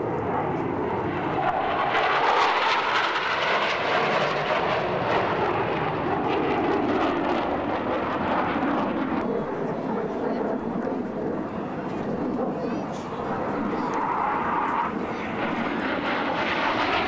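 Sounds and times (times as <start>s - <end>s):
jet fighters flying overhead: 0.0s - 17.0s.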